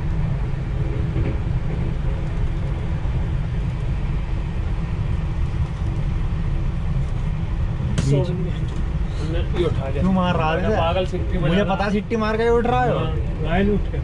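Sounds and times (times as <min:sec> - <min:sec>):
train rumbling at speed: 0:00.0 - 0:14.0.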